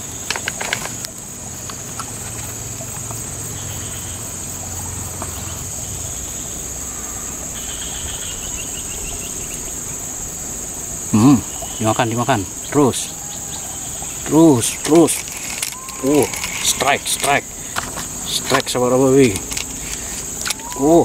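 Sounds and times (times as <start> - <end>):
high-pitched insect chorus: 0.0 - 21.0
lower insect trill: 0.0 - 21.0.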